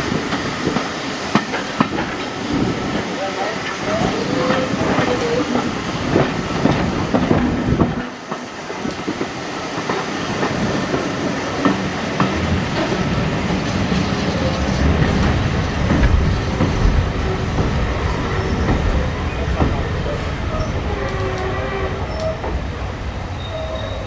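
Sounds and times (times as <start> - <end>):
wheels clicking over rail joints: 0.0 - 22.7
train running noise and rattles: 0.0 - 24.0.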